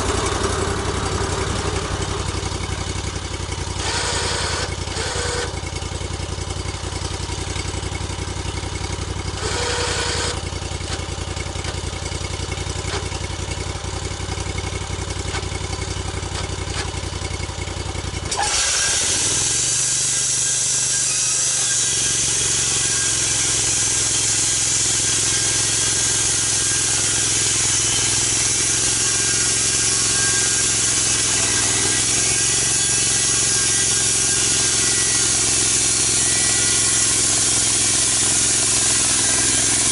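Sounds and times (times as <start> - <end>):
saw cutting through log: 0.0 - 17.4, 18.0 - 39.9
saw engine running: 0.0 - 39.9.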